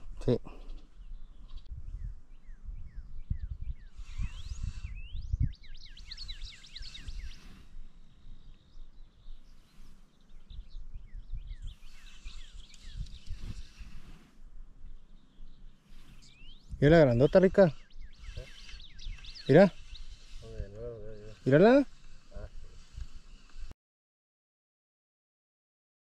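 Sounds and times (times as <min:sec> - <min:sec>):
songbird chirping: 0:00.0 - 0:23.7
wind buffeting microphone: 0:00.9 - 0:23.7.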